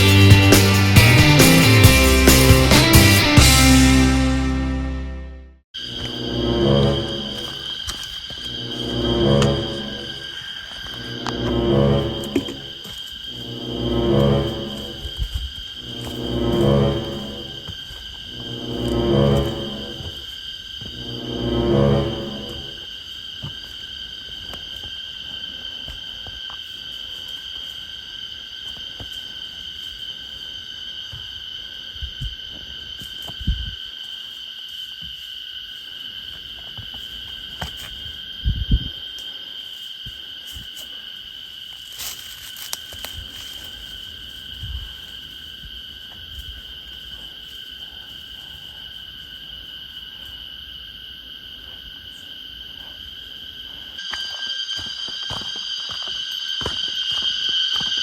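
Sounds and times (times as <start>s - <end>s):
insects droning: 5.8s - 58.0s.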